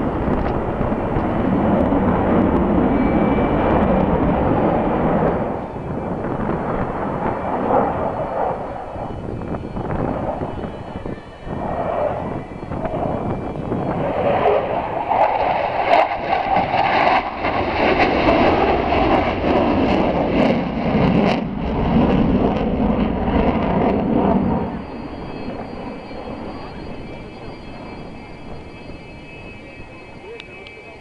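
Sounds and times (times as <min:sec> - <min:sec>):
fighter jet flying past: 0:00.0 - 0:31.0.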